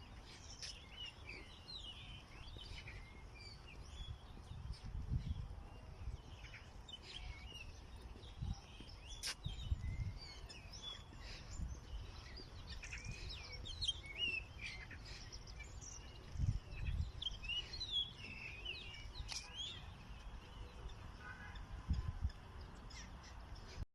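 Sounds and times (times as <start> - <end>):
small birds chirping and singing: 0.0 - 23.8.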